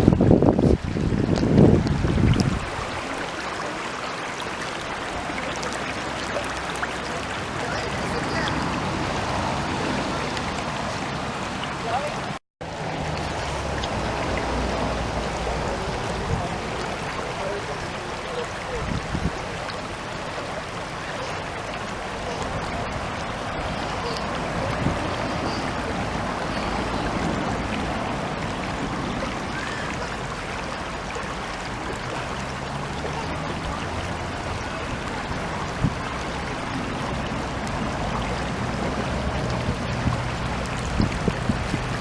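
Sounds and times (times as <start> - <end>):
stream water flowing: 0.0 - 42.0.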